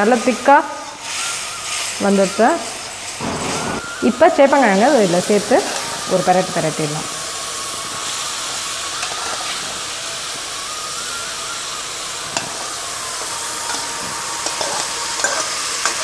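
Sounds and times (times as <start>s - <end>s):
liquid sizzling in a pan: 0.0s - 16.0s.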